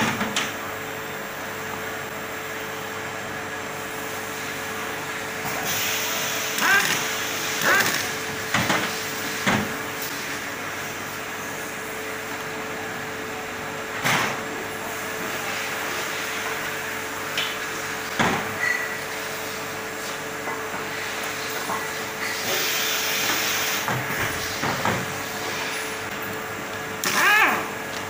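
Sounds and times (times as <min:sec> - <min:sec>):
leak test machine hum and hiss: 0:00.5 - 0:28.0.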